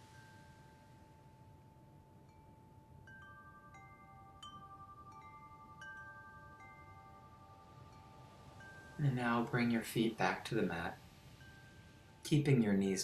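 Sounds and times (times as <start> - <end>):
faint chimes ringing: 0.0 - 13.0.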